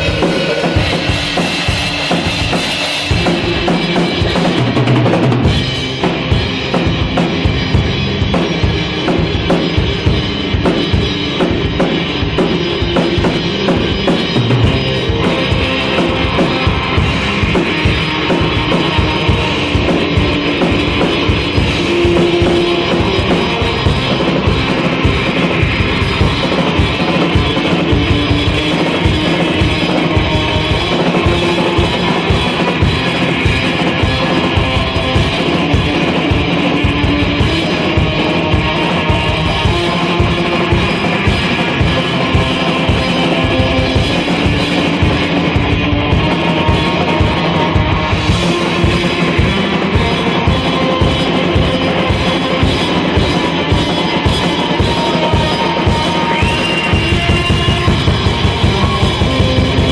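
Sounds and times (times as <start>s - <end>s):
band music: 0.0s - 59.9s
drum kit beat: 0.0s - 59.9s.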